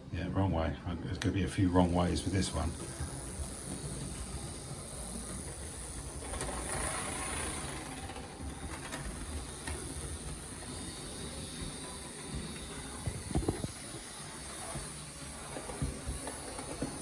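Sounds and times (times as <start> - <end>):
model train motor whine: 1.2 - 17.0.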